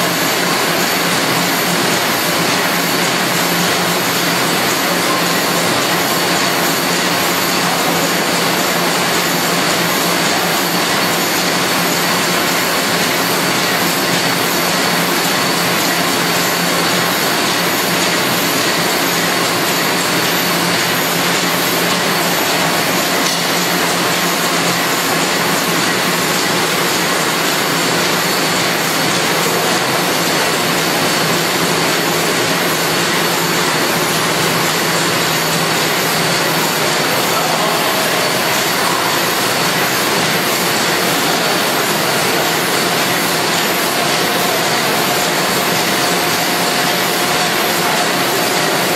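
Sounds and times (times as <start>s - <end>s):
machines running with hum and whine: 0.0s - 48.9s.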